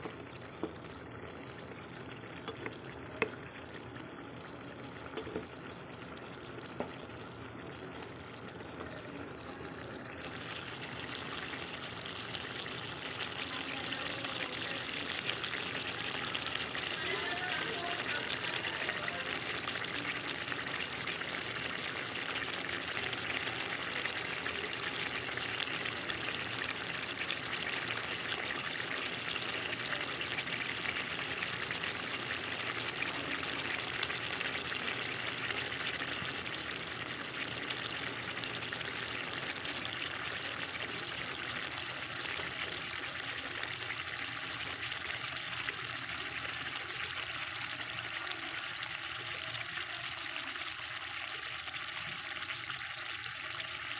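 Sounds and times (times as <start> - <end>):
stew sizzling and bubbling in a pot: 0.0 - 53.9.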